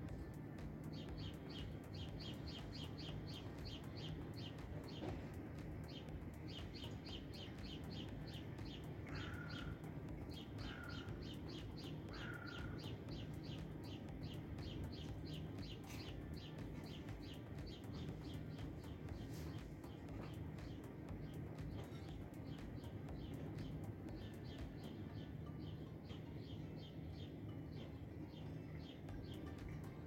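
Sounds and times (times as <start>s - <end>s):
bird chirping quickly: 0.8s - 27.0s.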